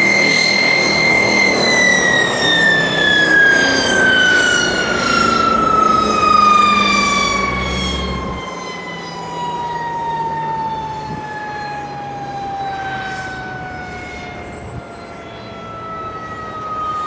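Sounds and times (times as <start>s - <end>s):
turboprop engines whine winding down: 0.0s - 17.0s.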